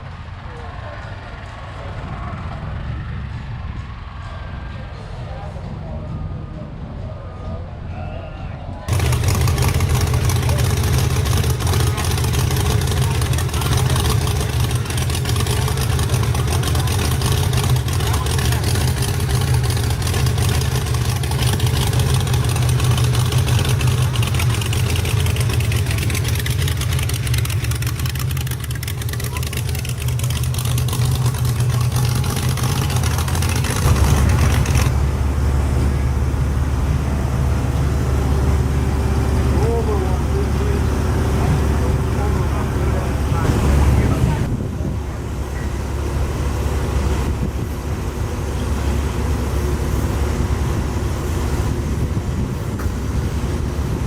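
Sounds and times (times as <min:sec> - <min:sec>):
car engine running: 0:08.9 - 0:54.0.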